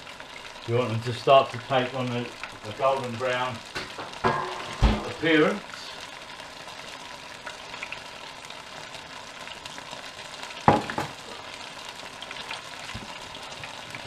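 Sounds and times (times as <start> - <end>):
oil sizzling in deep fryer: 0.0 - 14.0.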